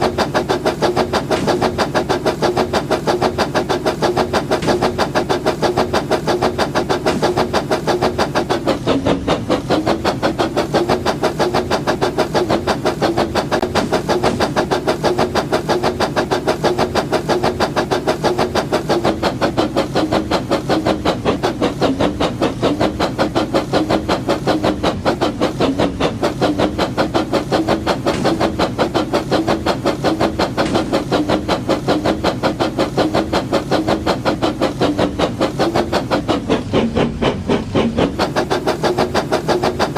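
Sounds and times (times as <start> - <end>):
toy train motor and wheels clattering: 0.0 - 39.9.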